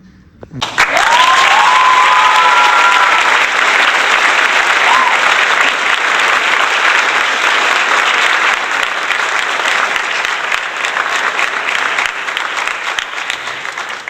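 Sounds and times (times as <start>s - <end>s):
crowd applauding: 0.6s - 14.0s.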